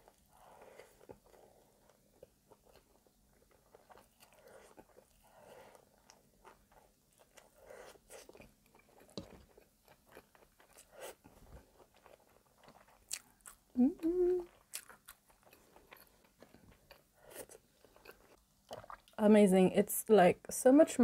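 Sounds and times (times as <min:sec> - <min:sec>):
chewing soft food: 0:00.0 - 0:19.2.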